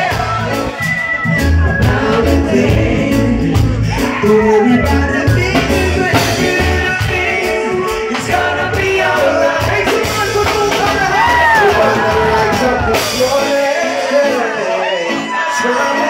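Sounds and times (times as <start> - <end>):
live reggae band: 0.0 - 16.0
man singing into a microphone: 1.6 - 16.0.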